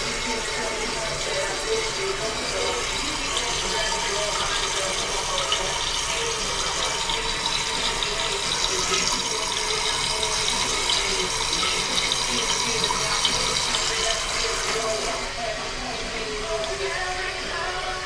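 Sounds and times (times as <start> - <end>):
water refilling toilet tank: 0.0 - 18.0.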